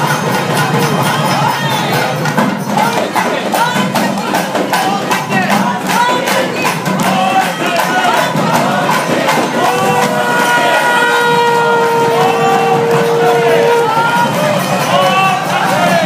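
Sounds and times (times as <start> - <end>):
crowd: 0.0 - 16.0
drums beating quick rhythm: 0.0 - 16.0
festival music: 0.0 - 16.0.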